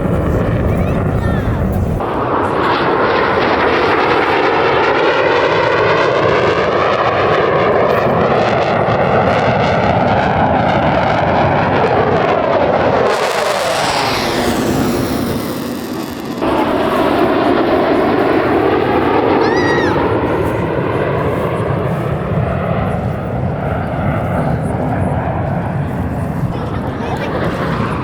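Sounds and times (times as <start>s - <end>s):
jet engines roaring past: 0.0s - 28.0s.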